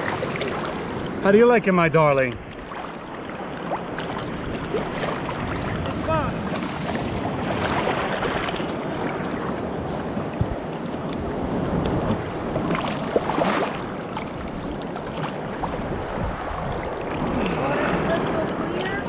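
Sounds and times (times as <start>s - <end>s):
small waves sloshing: 0.0s - 19.0s
wind buffeting microphone: 3.7s - 19.0s.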